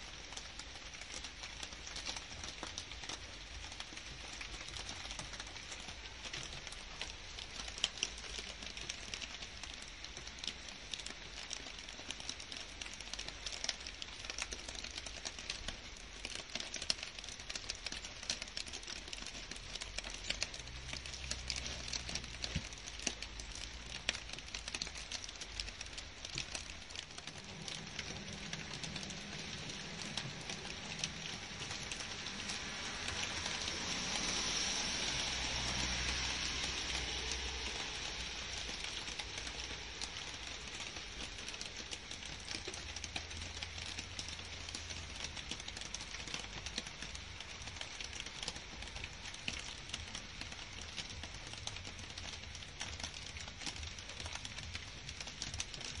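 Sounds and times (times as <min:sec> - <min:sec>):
faint low rumble: 0:00.0 - 0:56.0
rain falling on foliage: 0:00.0 - 0:56.0.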